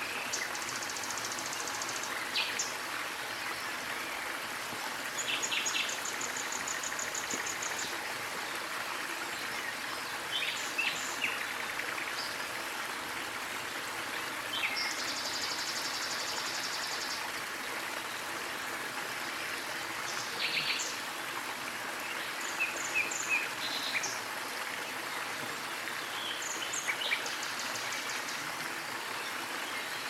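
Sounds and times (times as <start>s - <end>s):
waterfall running: 0.0s - 30.0s.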